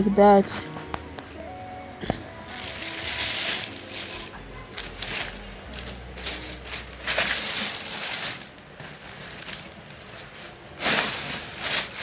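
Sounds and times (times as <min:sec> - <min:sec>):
plastic bags rustling and crinkling: 0:02.0 - 0:12.0.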